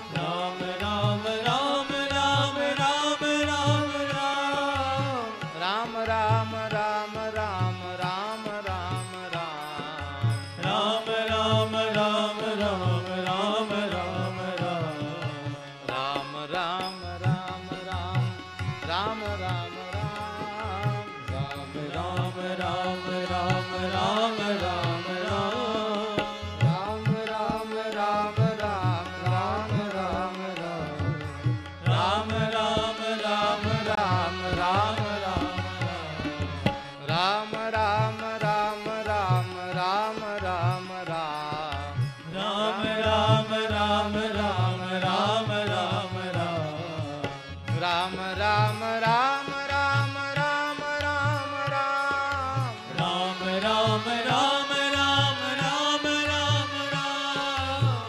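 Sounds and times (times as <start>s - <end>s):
tabla rhythm: 0.0s - 58.0s.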